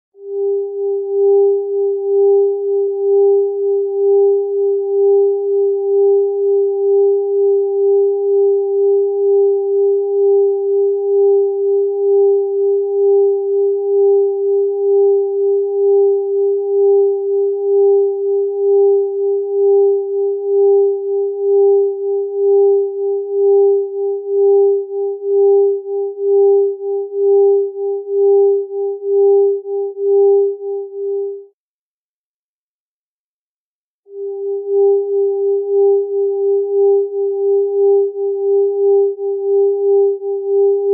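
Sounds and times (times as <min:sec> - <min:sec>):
beating electronic sine tones: 0:00.3 - 0:31.4, 0:34.1 - 0:40.9.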